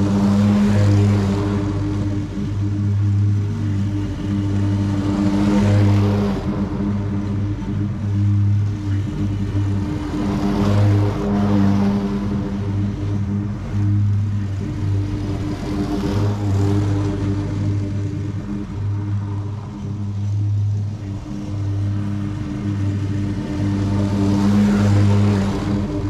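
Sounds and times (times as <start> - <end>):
lawn mower running: 0.0 - 26.0.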